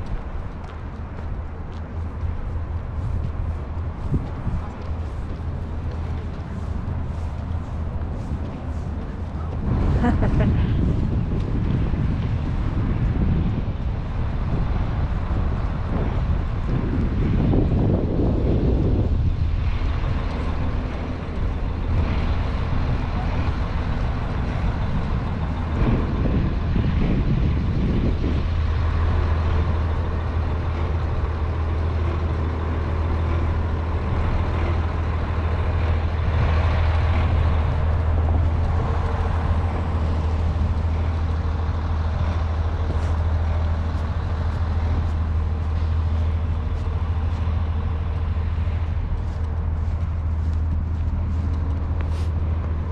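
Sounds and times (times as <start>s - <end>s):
low mechanical hum: 0.0s - 52.9s
outdoor noise: 0.0s - 52.9s.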